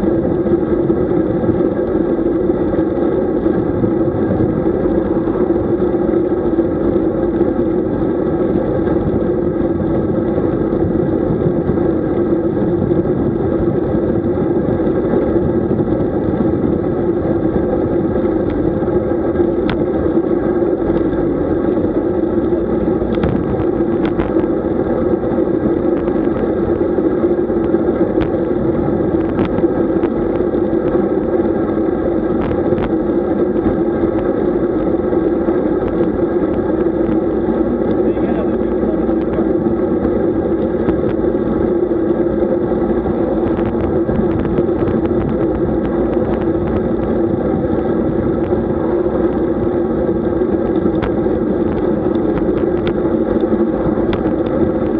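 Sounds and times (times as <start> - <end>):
vehicle drone: 0.0 - 54.9.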